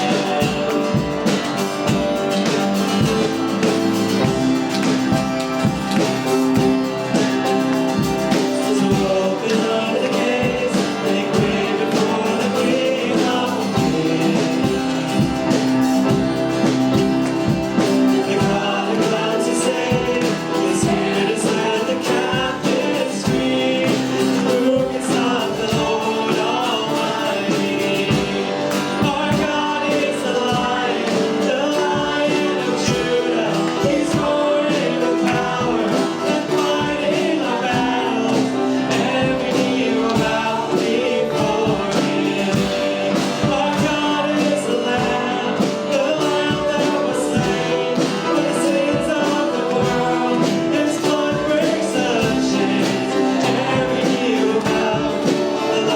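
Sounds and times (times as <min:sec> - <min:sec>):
congregation singing: 0:00.0 - 0:55.9
worship band playing: 0:00.0 - 0:55.9.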